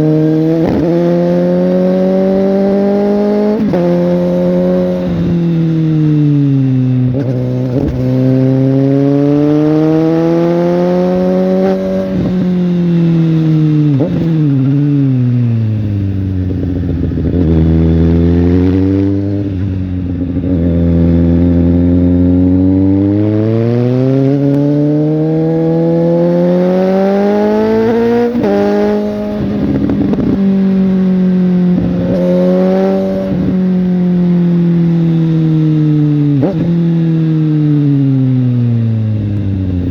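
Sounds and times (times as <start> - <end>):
motorcycle engine and exhaust revving: 0.0 - 39.9.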